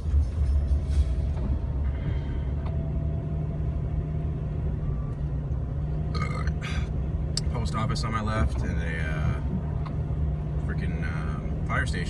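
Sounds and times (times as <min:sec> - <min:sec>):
car engine and road rumble: 0:00.0 - 0:12.0
low hum: 0:00.0 - 0:12.0.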